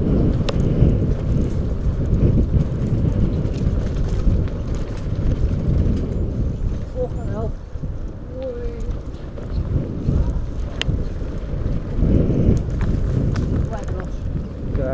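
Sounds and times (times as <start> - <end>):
bike clicks and rattles: 0.0 - 14.9
wind rumbling on microphone: 0.0 - 14.9.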